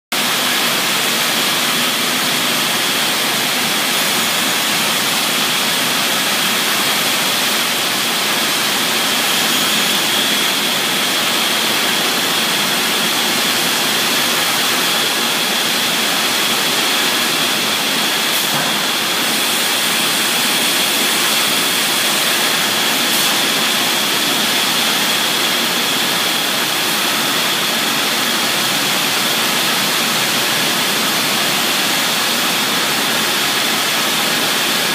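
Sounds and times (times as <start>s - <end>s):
machine routing wood: 0.2s - 34.9s
high spindle whine: 0.6s - 34.8s.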